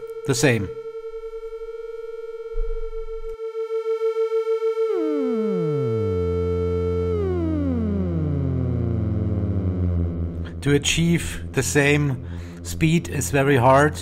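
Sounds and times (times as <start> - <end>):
bright synth tone: 0.0 - 12.6
synth tone gliding down: 0.0 - 13.8
low synth drone: 0.0 - 14.0.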